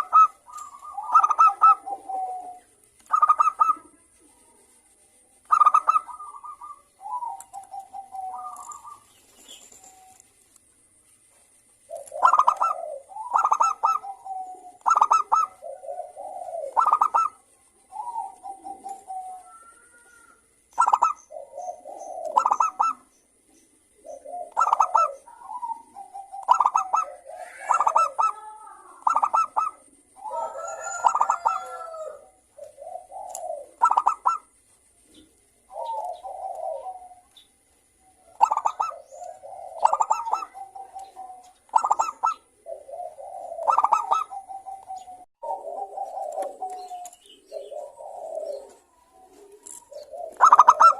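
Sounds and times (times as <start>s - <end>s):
doves cooing: 0.0s - 10.5s, 11.2s - 50.9s.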